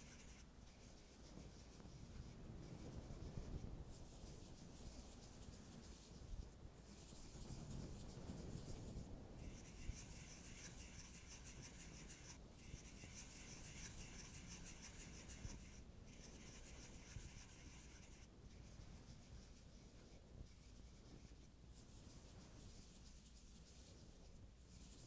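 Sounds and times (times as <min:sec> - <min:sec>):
fingertip rubbing and scratching: 0:00.0 - 0:25.0.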